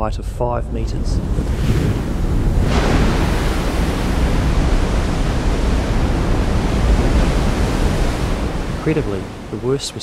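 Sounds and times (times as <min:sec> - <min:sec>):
rush of surging water: 0:01.4 - 0:10.0.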